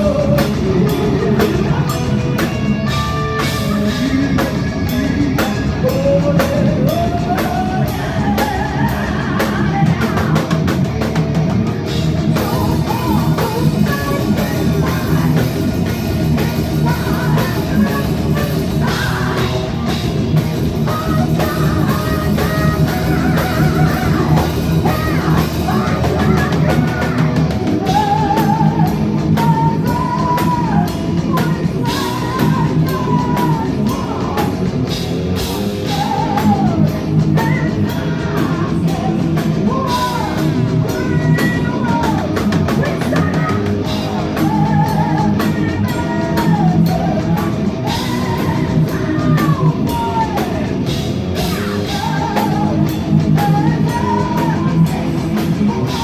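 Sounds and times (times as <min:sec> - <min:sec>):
woman singing: 0:00.0 - 0:10.7, 0:12.3 - 0:56.0
heavy metal band playing: 0:00.0 - 0:56.0.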